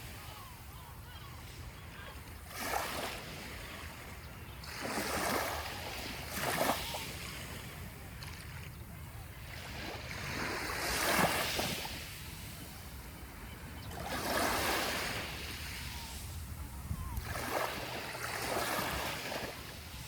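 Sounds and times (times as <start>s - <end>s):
small waves breaking on shore: 0.0s - 20.0s.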